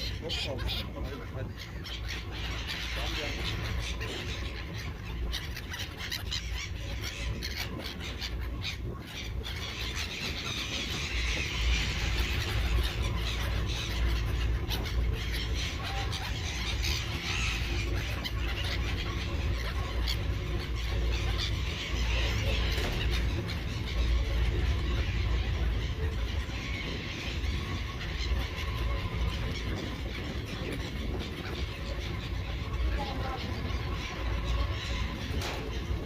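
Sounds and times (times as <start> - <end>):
seagulls calling: 0.0 - 36.0
steady low rumble: 0.0 - 36.0.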